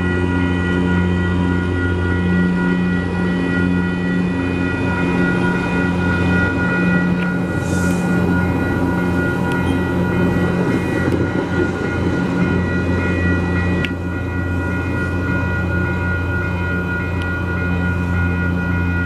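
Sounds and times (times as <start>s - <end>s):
train coaches rolling past: 0.0s - 19.0s
train engine drone with whine: 0.0s - 19.0s.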